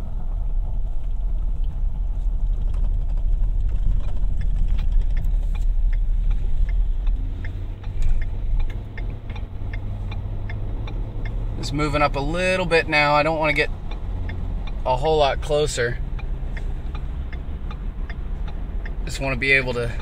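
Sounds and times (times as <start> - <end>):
car engine idling: 0.0 - 20.0
light ticks: 2.5 - 20.0.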